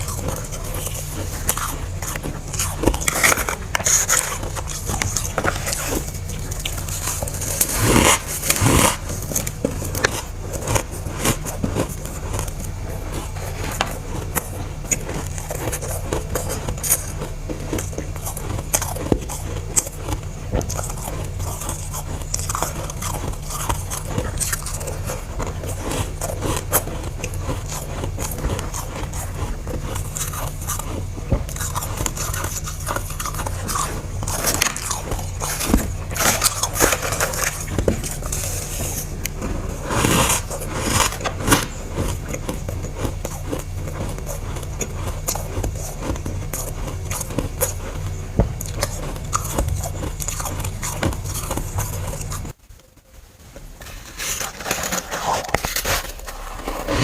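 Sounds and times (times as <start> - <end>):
chewing crunchy frost: 0.0 - 57.0
steady low hum: 0.0 - 57.0.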